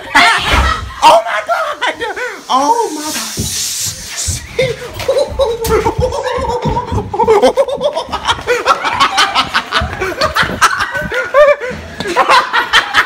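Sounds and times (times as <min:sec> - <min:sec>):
loud laughter in bursts: 0:00.0 - 0:02.5, 0:04.6 - 0:13.0.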